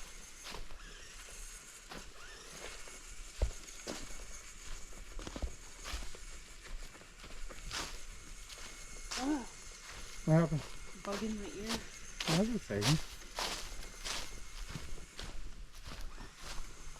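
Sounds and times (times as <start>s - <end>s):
leaves and twigs crunching: 0.0s - 16.9s.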